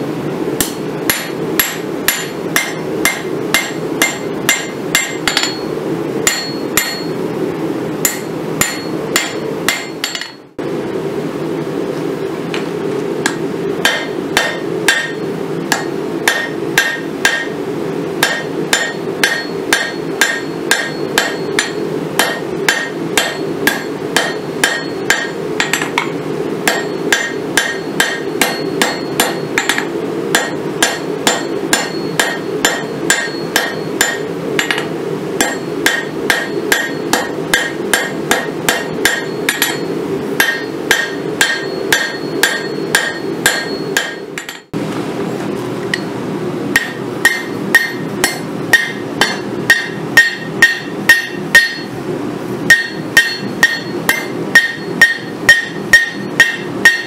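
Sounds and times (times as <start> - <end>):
steady low hum: 0.0 - 57.0
hammer striking metal on anvil: 0.6 - 7.2, 8.0 - 10.6, 13.2 - 17.6, 18.2 - 44.8, 46.7 - 52.0, 52.7 - 57.0.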